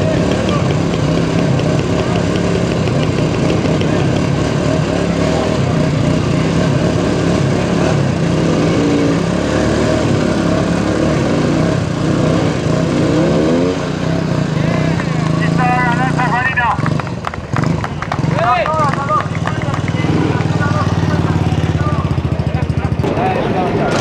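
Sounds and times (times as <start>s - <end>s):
motorcycle engines running: 0.0s - 24.0s.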